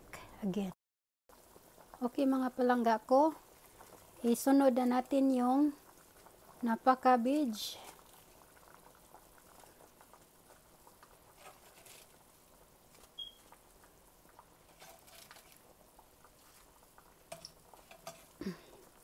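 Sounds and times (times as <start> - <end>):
leaves pattering into pot: 3.4 - 19.0.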